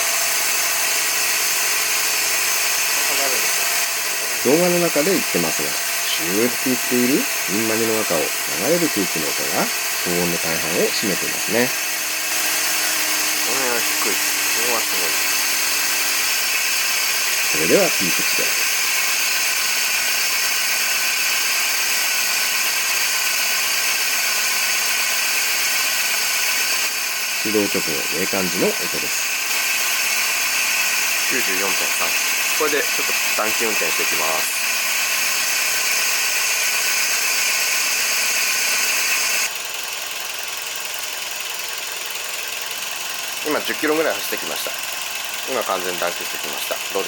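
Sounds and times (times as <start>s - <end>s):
car engine at fast idle: 0.0s - 47.0s.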